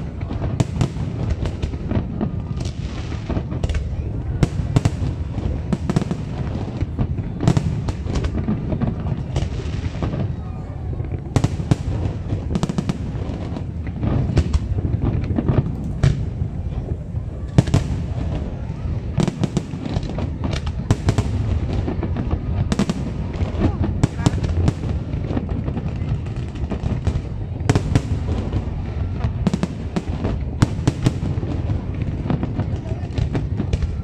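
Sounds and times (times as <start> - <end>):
continuous low rumble: 0.0 - 34.0
fireworks bursting with sharp bangs: 0.0 - 34.0.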